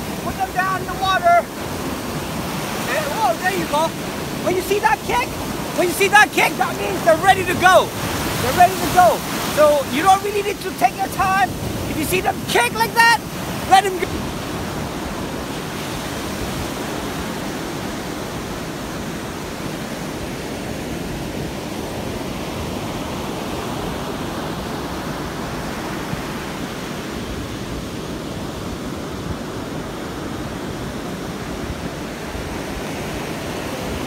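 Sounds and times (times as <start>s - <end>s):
ocean surf breaking on beach: 0.0s - 34.0s.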